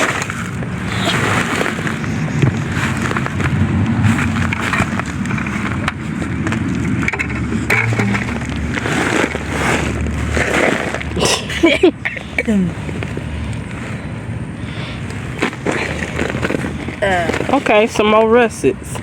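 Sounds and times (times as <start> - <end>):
soil scraping against plastic bucket: 0.0 - 14.0, 14.9 - 18.6.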